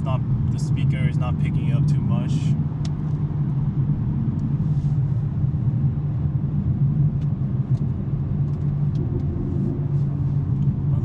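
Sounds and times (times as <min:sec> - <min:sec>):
car engine drone in cabin: 0:00.0 - 0:11.0
road noise: 0:00.0 - 0:11.0.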